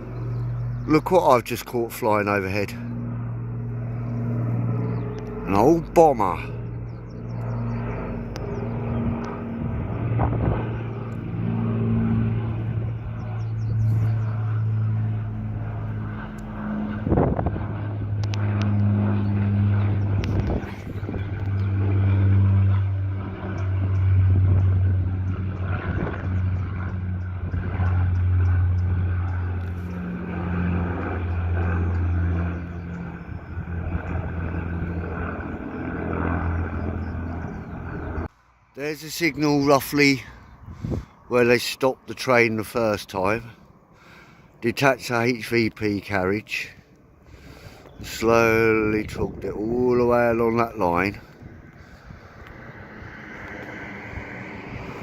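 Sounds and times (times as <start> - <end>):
propeller plane engines droning: 0.0 - 55.0.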